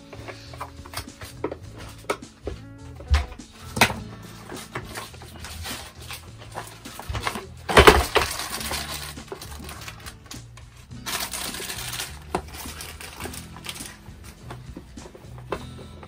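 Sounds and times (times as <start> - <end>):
background music: 0.0 - 16.0
small hard parts clinking: 0.1 - 15.8.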